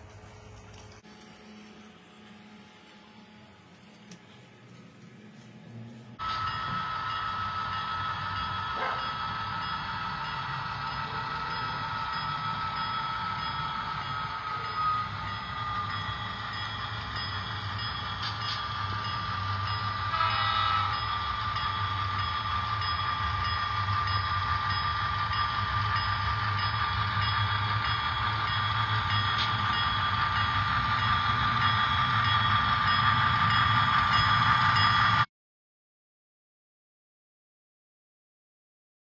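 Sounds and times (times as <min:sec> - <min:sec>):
model train whine and rumble: 0:00.0 - 0:04.8, 0:06.1 - 0:35.3.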